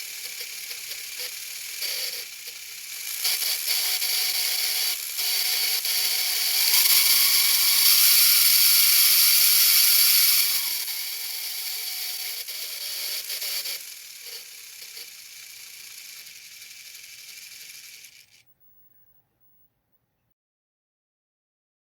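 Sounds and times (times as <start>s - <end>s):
electric motors whining: 0.0s - 18.5s.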